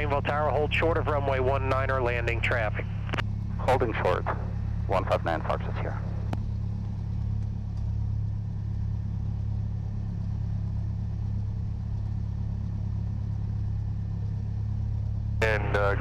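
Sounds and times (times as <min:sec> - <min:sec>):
propeller plane engine idling: 0:00.0 - 0:16.0.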